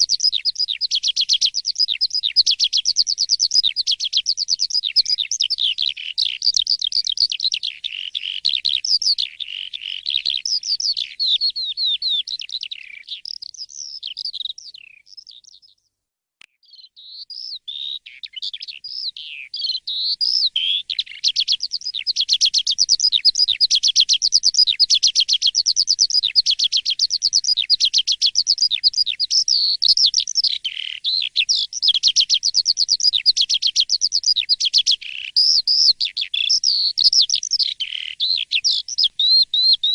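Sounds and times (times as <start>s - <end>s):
starling singing chattering whistles: 0.0s - 15.8s, 16.7s - 39.9s.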